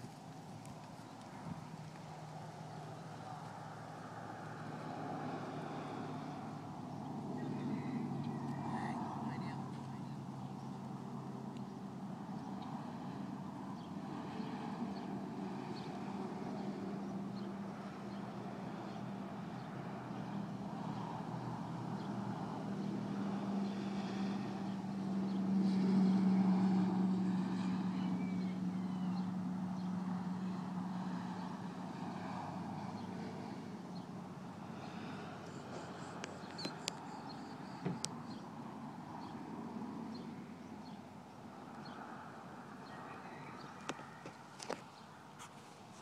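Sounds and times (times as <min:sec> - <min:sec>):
vehicle engine humming: 0:00.0 - 0:46.0.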